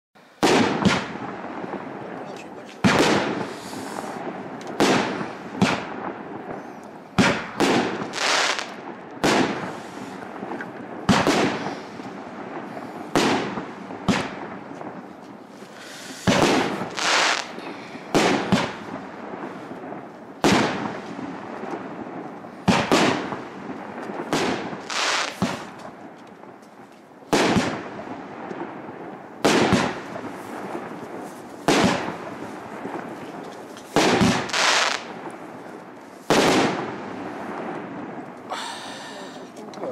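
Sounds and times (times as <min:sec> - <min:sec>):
fireworks launching and bursting: 0:00.2 - 0:39.9.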